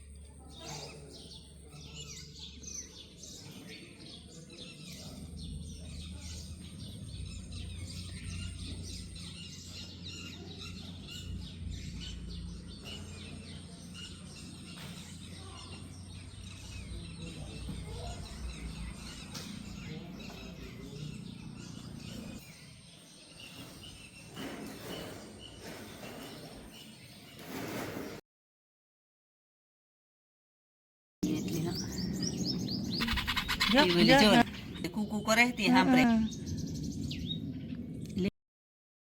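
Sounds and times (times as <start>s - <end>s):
birds chirping: 0.0s - 28.2s, 31.2s - 38.3s.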